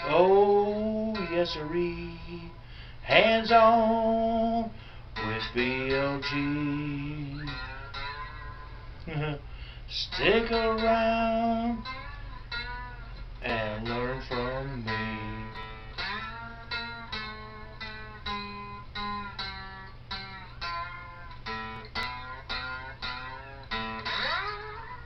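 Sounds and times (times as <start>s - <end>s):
guitar picking single notes: 0.0s - 25.0s.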